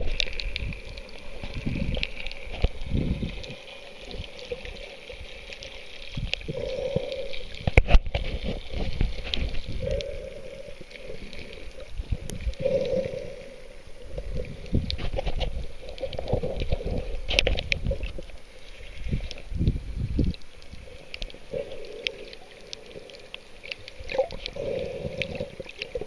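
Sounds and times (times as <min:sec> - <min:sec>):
muffled water sloshing underwater: 0:00.0 - 0:26.0.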